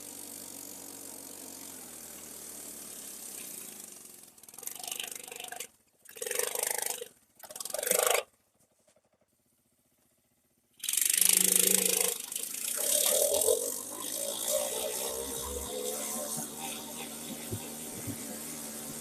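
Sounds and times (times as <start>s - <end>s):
small engine running and revving: 0.0s - 8.4s, 10.8s - 19.0s.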